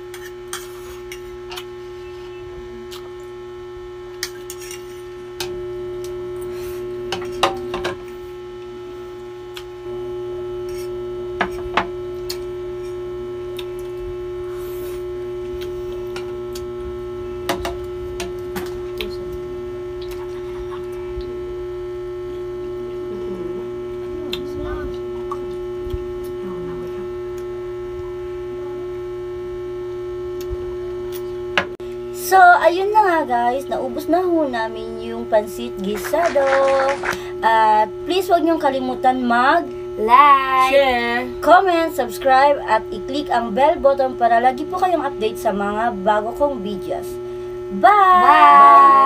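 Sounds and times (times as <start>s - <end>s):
steady electrical hum: 0.0s - 49.0s.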